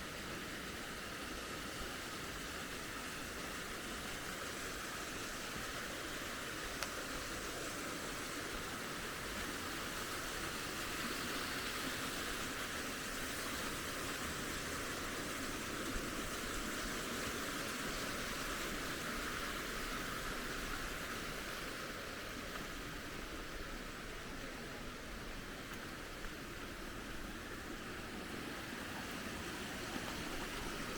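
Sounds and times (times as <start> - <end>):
rushing water: 0.0 - 30.9.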